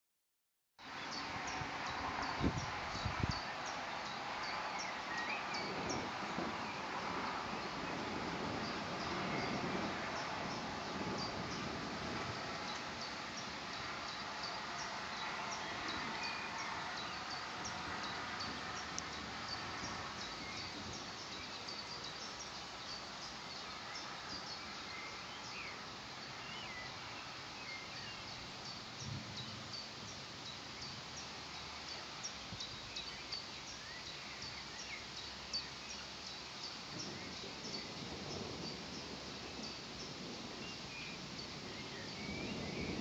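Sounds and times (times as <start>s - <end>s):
small birds chirping: 0.8s - 43.0s
steady hiss: 0.8s - 43.0s.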